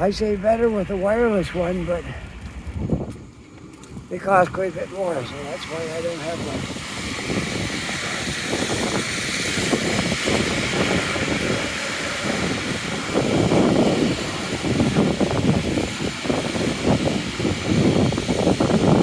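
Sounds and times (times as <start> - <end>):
steady hiss: 0.0 - 18.8
wind buffeting microphone: 0.0 - 19.0.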